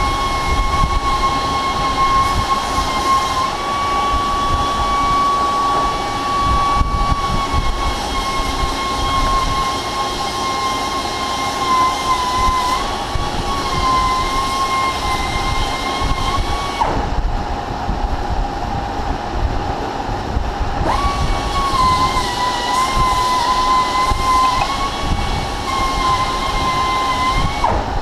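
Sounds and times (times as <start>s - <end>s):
lathe gear whine: 0.0s - 28.0s
low machine rumble: 0.0s - 28.0s.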